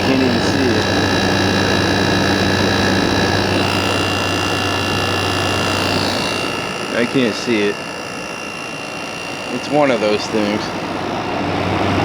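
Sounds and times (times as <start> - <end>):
air conditioner fan rushing: 0.0 - 12.0
faint steady whines: 0.0 - 12.0
low hum: 0.0 - 12.0.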